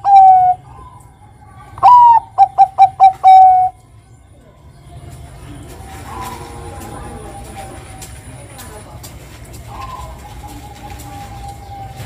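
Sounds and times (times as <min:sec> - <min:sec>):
dove cooing song: 0:00.0 - 0:03.8, 0:05.0 - 0:08.5, 0:09.4 - 0:12.0.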